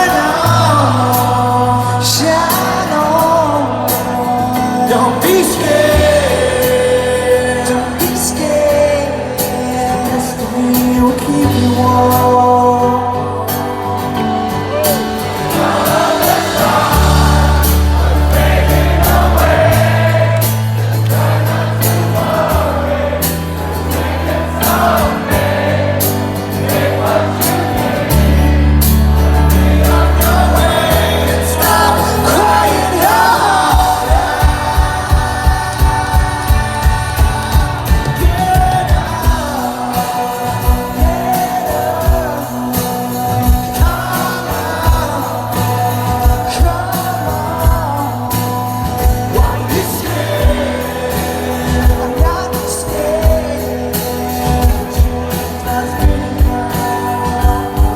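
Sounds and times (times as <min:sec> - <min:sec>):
person singing: 0:00.0 - 0:57.9
rock band playing a ballad: 0:00.0 - 0:57.9.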